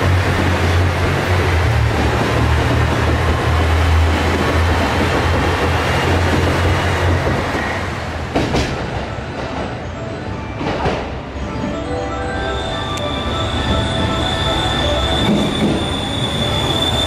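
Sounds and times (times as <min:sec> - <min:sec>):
train engine drone: 0:00.0 - 0:17.0
wheels rolling on rail: 0:00.0 - 0:17.0.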